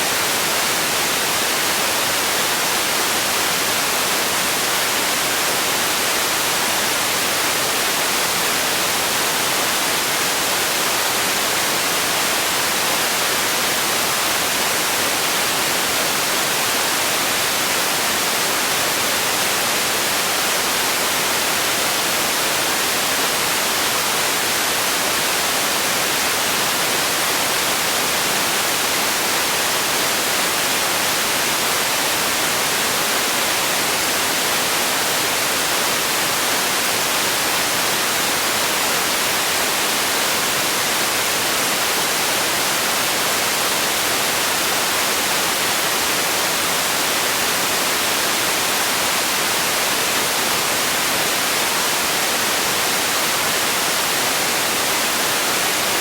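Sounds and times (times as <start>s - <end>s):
synthetic white noise hiss: 0.0s - 56.0s.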